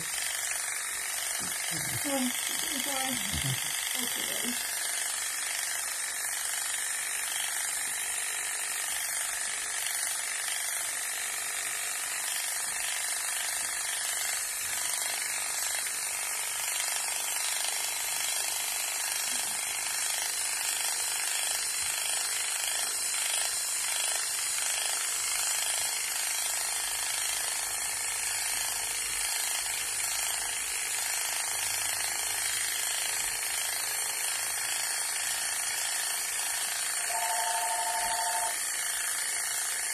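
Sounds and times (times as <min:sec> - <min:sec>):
electric clippers buzzing: 0:00.0 - 0:39.9.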